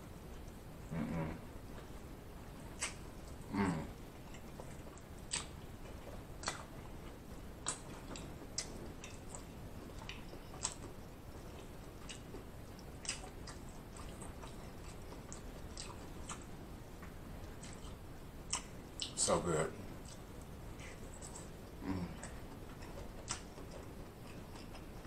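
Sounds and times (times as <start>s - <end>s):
lip smacks and clicks: 2.7s - 3.4s, 4.3s - 19.2s, 20.0s - 25.0s
wet chewing mouth sounds: 2.7s - 19.2s, 19.9s - 25.0s.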